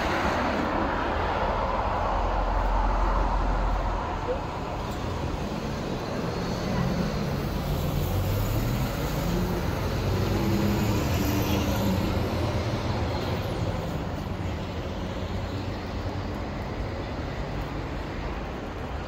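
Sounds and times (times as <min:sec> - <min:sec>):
traffic background: 0:00.0 - 0:19.0.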